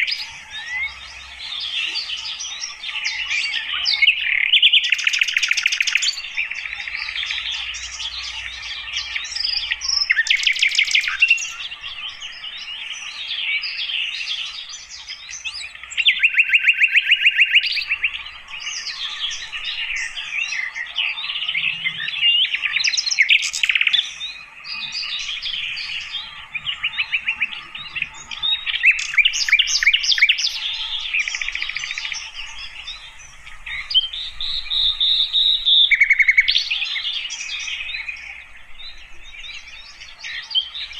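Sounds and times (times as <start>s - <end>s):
flycatcher singing: 0.0s - 40.9s.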